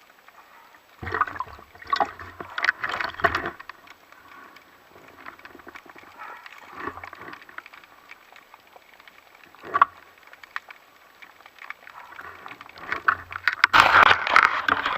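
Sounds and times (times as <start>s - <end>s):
underwater crackling and clicks: 0.0s - 14.9s
water swishing: 0.1s - 14.9s.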